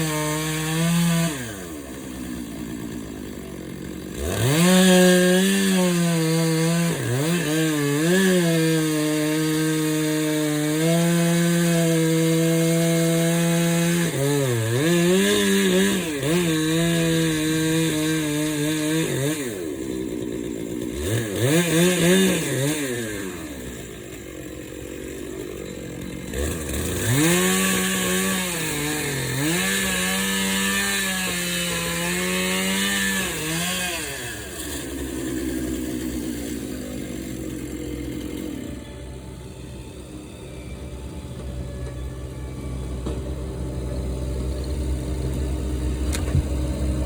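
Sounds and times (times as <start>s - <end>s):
chainsaw cutting logs: 0.0s - 47.0s.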